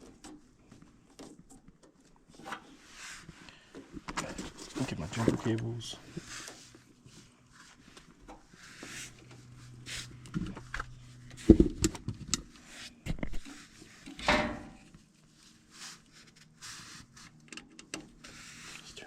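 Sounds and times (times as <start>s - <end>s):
handling knocks and rustling: 0.0s - 18.6s.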